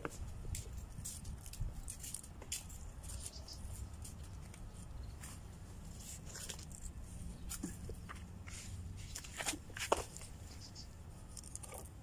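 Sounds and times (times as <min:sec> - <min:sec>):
rustles of hands handling plants: 0:00.0 - 0:12.0.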